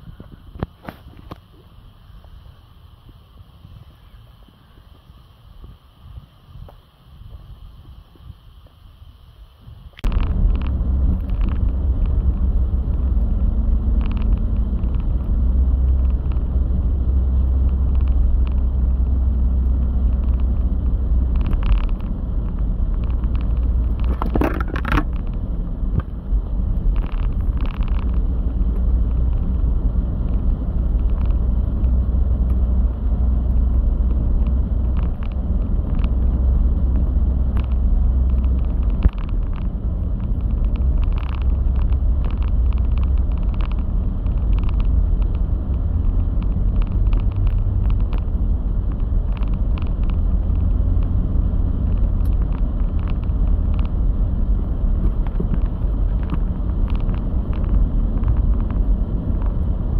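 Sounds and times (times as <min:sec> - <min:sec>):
low rumble: 0:00.0 - 0:59.9.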